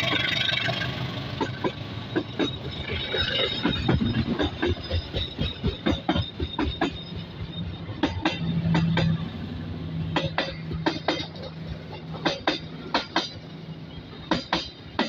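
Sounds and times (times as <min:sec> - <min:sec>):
train rumble: 0:00.0 - 0:15.0
train wheels clattering over rail joints: 0:00.0 - 0:15.0.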